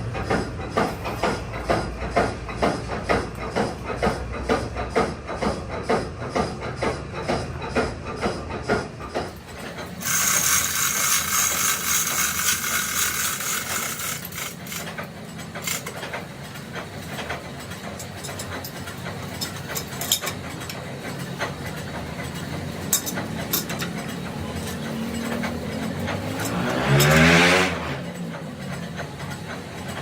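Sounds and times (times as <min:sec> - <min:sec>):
workshop machinery hum: 0:00.0 - 0:30.0.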